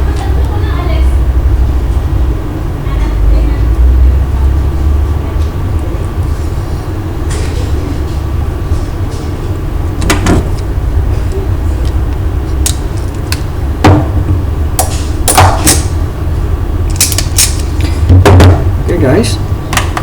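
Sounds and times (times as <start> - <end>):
low rumble: 0.0 - 19.6.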